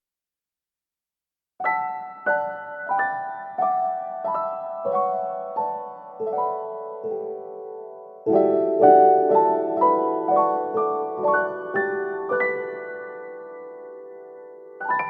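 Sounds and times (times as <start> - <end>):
gentle piano chords: 1.6 - 15.0.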